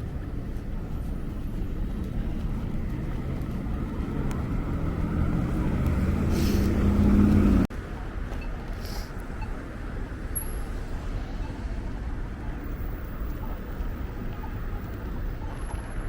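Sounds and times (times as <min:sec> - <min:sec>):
approaching vehicle hum: 0:00.0 - 0:16.0
city traffic rumble: 0:00.0 - 0:16.0.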